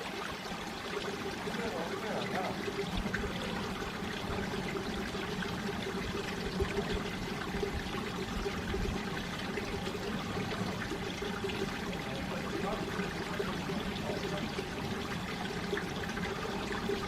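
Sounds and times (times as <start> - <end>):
stream water rushing over rocks: 0.0 - 17.0.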